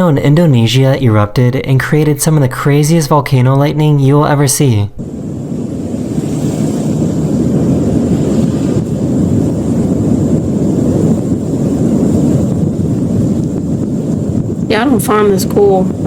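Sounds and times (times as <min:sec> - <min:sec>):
low rumble of volcanic eruption: 0:00.0 - 0:16.0.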